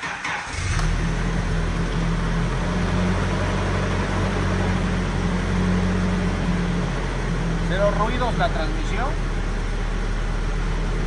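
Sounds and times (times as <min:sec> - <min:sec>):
pickup engine running: 0:00.2 - 0:11.0.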